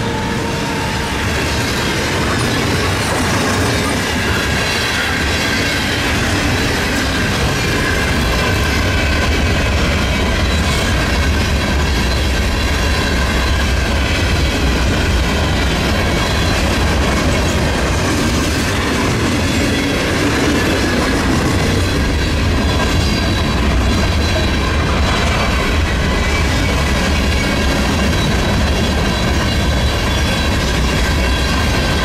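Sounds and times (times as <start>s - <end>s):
freight train rumbling past: 0.0s - 32.0s
train wheels squealing: 0.0s - 32.0s.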